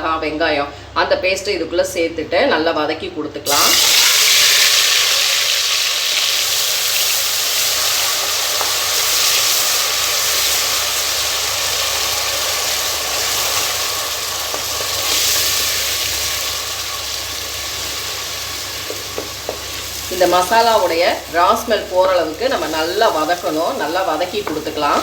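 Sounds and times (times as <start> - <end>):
paste sizzling in hot oil: 3.5 - 25.0.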